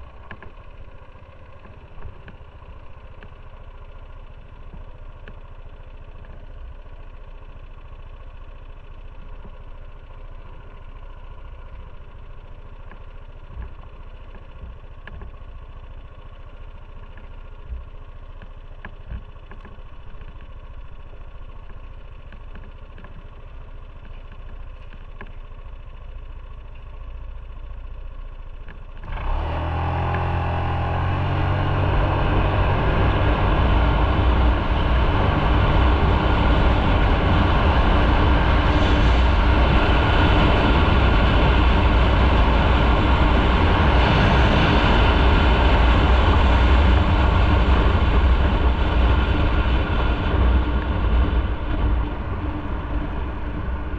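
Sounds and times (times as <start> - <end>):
motorcycle engine: 0.0 - 53.9.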